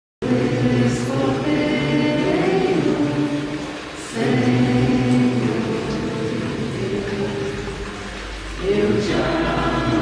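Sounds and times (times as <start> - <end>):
young voices singing a hymn: 0.2 - 10.0.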